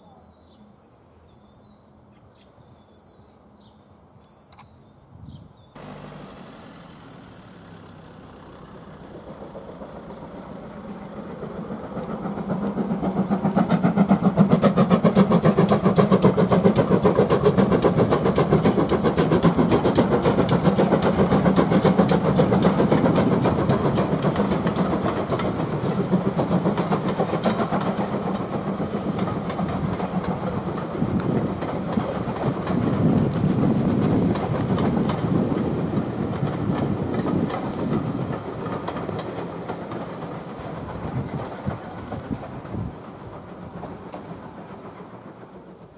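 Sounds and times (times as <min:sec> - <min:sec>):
steam locomotive hauling train: 0:05.8 - 0:45.9.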